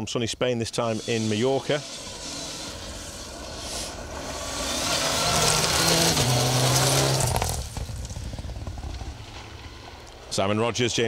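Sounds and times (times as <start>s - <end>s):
gravel hissing under tyres: 0.8s - 10.4s
rally car engine passing: 0.9s - 10.4s.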